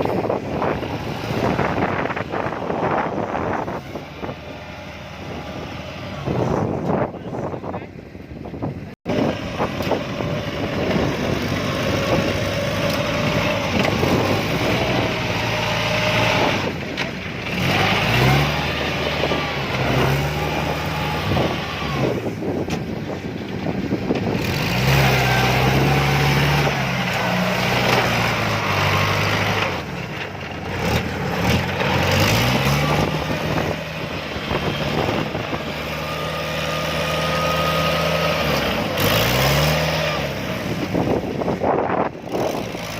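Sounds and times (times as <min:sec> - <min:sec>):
diesel engine revving under load: 0:00.0 - 0:07.6, 0:08.6 - 0:42.9.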